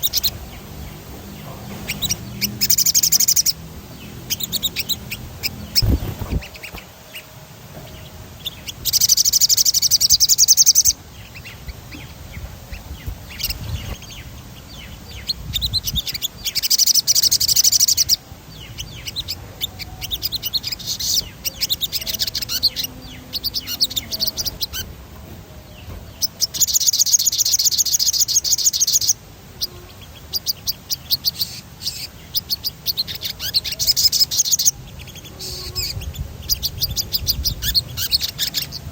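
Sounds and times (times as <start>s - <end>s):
bird chirps: 0.0s - 38.9s.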